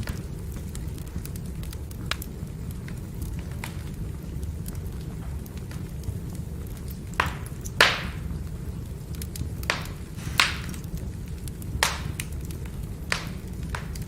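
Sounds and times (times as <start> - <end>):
firewood burning: 0.0 - 14.0
sharp pops of fire: 0.0 - 14.0.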